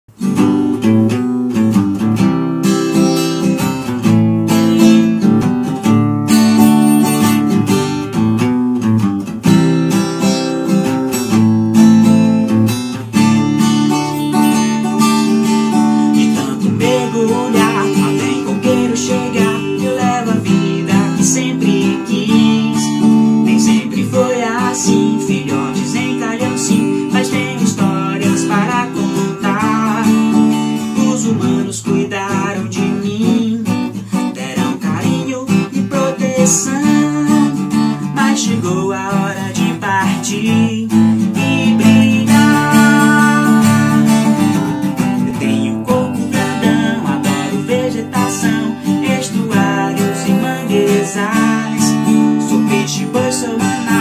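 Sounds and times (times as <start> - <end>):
strummed acoustic guitar: 0.1 - 54.0.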